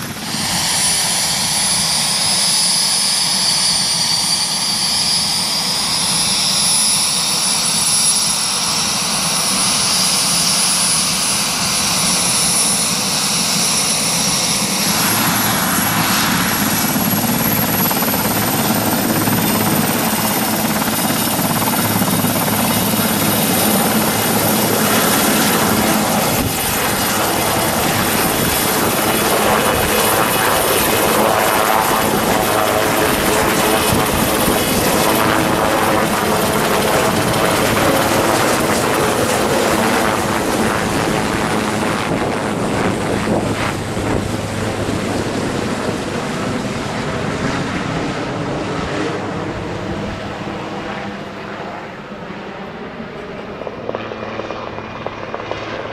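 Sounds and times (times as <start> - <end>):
helicopter turbines and rotor: 0.0 - 55.9.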